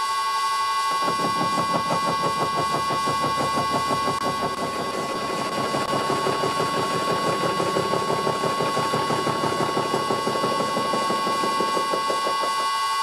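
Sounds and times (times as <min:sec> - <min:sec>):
lathe high whine: 0:00.0 - 0:13.0
face mill hammering steel: 0:00.9 - 0:13.0.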